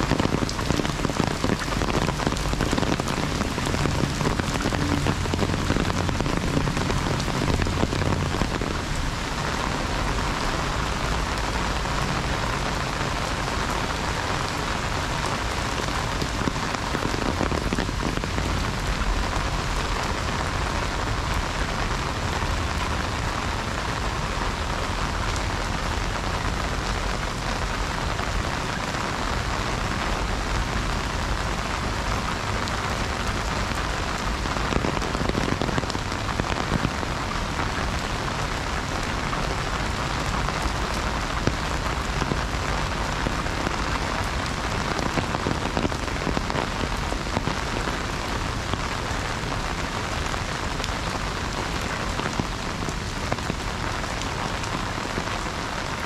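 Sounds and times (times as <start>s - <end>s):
heavy rain on an umbrella: 0.0s - 56.0s.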